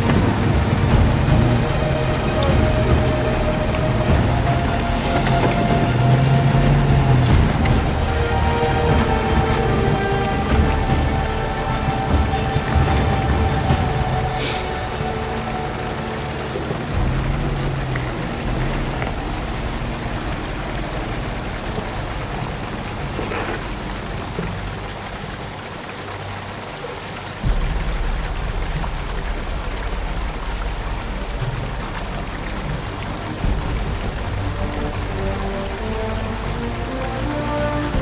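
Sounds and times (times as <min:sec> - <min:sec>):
low sustained music tones: 0:00.0 - 0:38.0
rain hiss: 0:00.0 - 0:38.0
raindrop ticks: 0:00.0 - 0:38.0.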